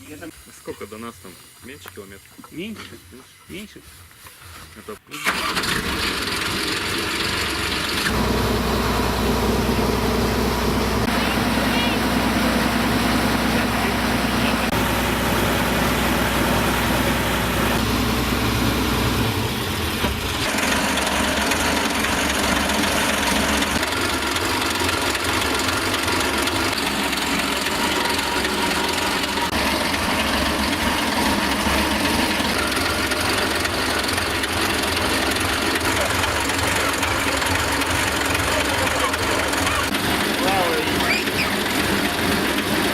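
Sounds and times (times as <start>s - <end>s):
tractor engine running: 5.2s - 42.9s.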